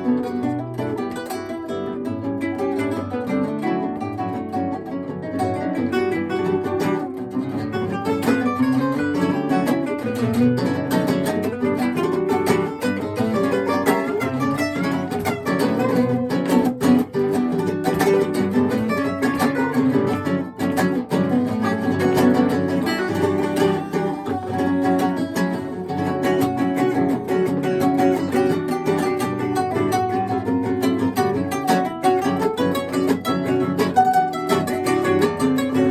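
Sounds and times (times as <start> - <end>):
acoustic guitar trio: 0.0 - 35.9.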